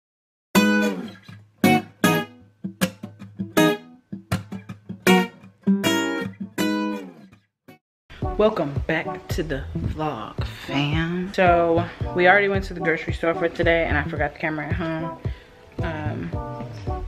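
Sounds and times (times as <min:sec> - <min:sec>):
acoustic guitar strumming: 0:00.6 - 0:07.4, 0:08.1 - 0:17.0.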